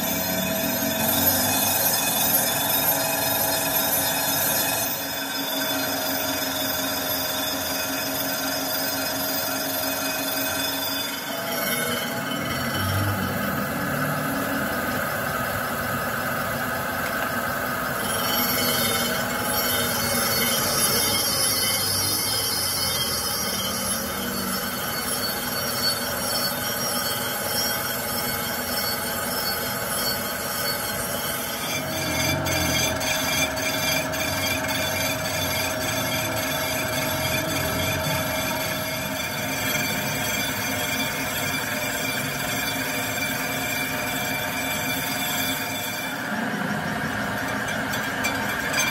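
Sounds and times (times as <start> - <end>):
grinding machine hum and hiss: 0.0 - 48.9
thin machine whine: 0.0 - 48.9.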